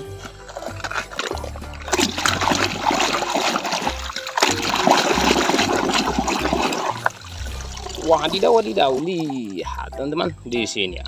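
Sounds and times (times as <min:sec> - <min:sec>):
water splashing and sloshing: 0:00.0 - 0:10.2.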